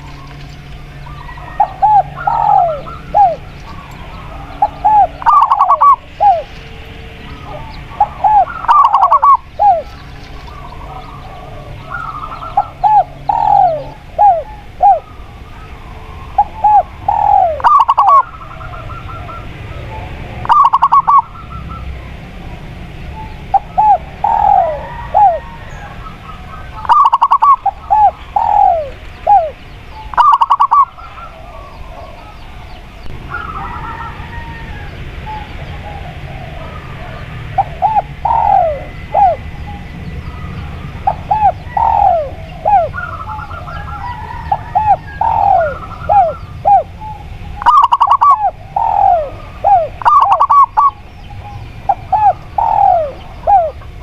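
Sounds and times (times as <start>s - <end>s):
doves cooing: 0.0s - 54.0s
low background noise: 0.0s - 54.0s.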